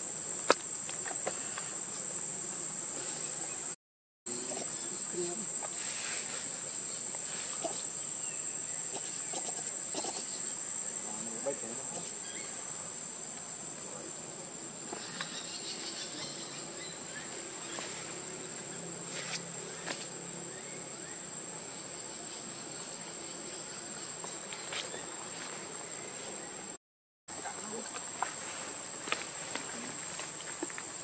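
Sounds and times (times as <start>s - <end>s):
high-pitched insect drone: 0.1s - 31.0s.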